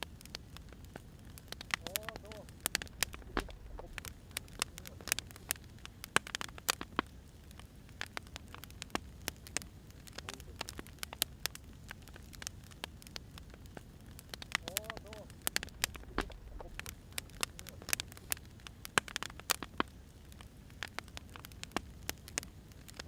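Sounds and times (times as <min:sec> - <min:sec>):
low steady rumble: 0:00.0 - 0:19.4
wood fire crackling: 0:00.0 - 0:23.0.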